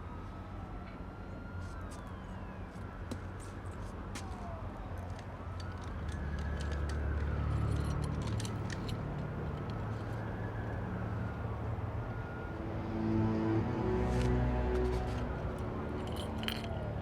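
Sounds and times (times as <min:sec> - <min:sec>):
police siren wailing: 0:00.0 - 0:17.0.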